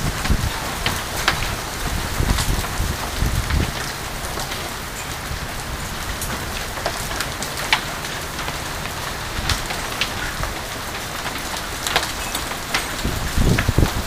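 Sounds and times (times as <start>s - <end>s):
hail and heavy rain falling: 0.0s - 14.0s
hail splashing into pool water: 0.0s - 14.0s
hailstones cracking on hard surfaces: 0.0s - 14.0s.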